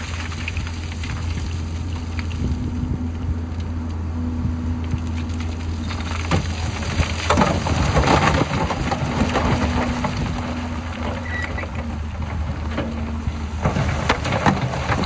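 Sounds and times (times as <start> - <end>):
diesel engine running: 0.0 - 15.0
rock and soil crunching: 0.0 - 15.0.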